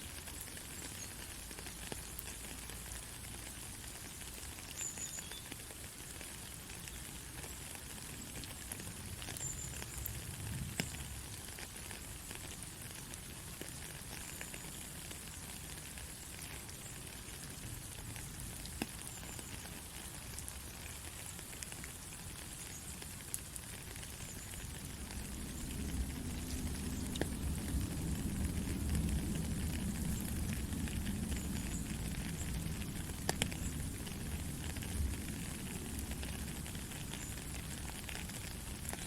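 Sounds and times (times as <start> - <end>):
raindrop ticks: 0.0 - 39.0
soft rain hiss: 0.0 - 39.0.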